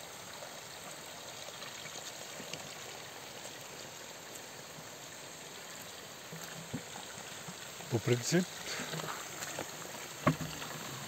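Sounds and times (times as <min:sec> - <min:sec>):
water running from a spout: 0:00.0 - 0:11.0.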